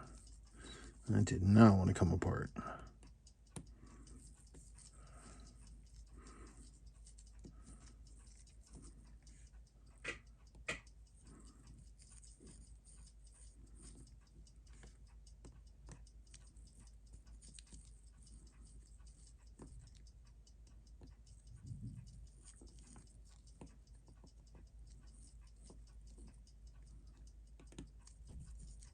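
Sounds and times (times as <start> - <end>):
faint tool ticks and clicks: 0.0 - 28.9.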